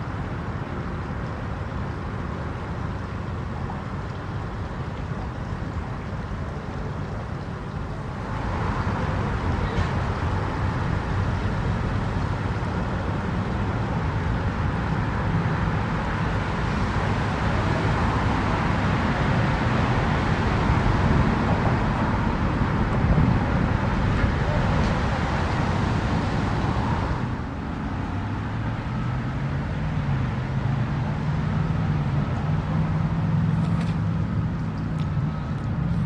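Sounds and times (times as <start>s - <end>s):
engine rumble: 0.0s - 36.0s
noisy wash: 0.0s - 36.0s.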